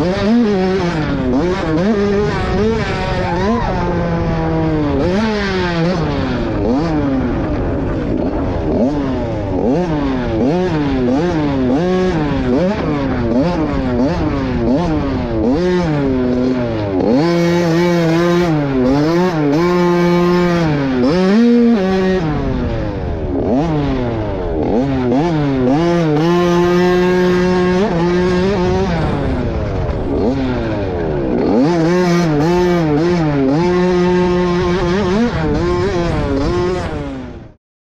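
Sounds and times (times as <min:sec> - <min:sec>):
dirt bike engine revving: 0:00.0 - 0:37.6.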